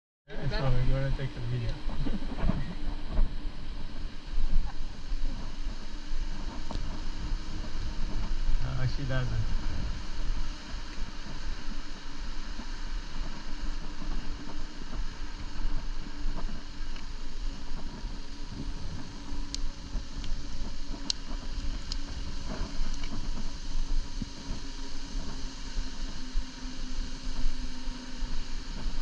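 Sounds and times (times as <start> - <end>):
wind buffeting microphone: 0.3 - 29.0
bike tyres rolling on sand: 0.4 - 29.0.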